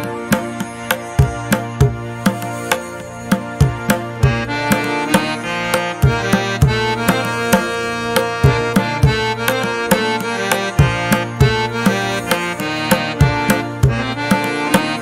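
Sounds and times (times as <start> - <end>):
instrumental music: 0.0 - 15.0
steady drum beat: 0.0 - 15.0.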